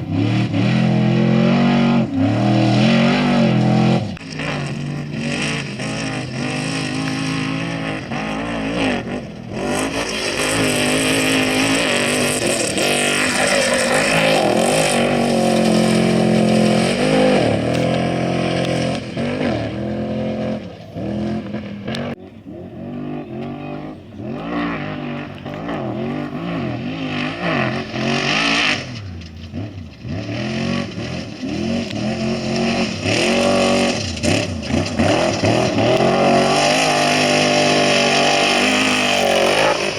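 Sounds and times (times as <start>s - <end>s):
race vehicle engines revving: 0.0s - 39.9s.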